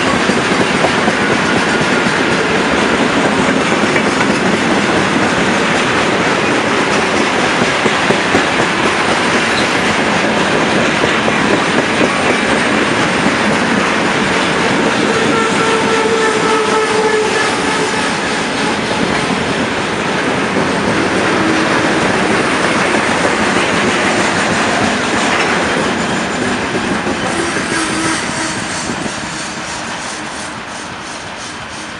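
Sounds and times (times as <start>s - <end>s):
wheels clattering over rail joints: 0.0s - 16.2s, 17.5s - 29.0s.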